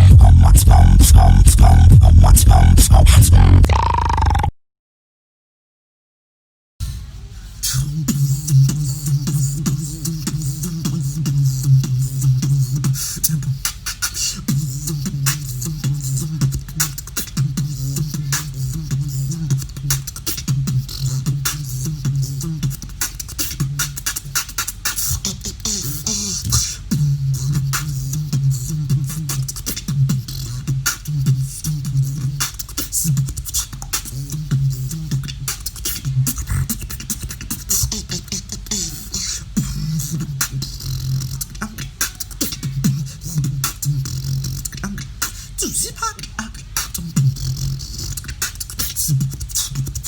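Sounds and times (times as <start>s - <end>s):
beatbox hi-hat and snare: 0.0s - 3.7s, 7.6s - 50.0s
beatbox clicks: 0.0s - 4.4s, 7.6s - 50.0s
buzzing beatbox bass: 0.0s - 4.5s, 7.6s - 50.0s.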